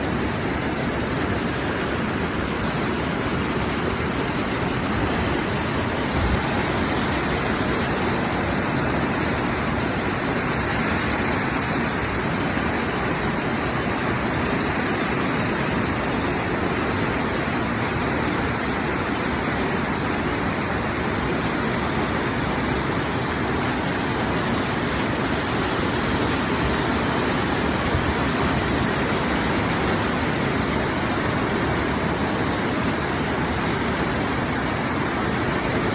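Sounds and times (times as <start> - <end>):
heavy rain pouring: 0.0 - 35.9
wind: 0.0 - 35.9.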